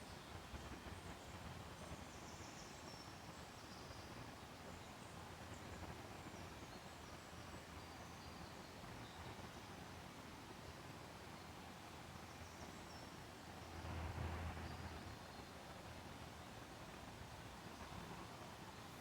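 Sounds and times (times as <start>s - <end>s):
faint background noise: 0.0s - 19.0s.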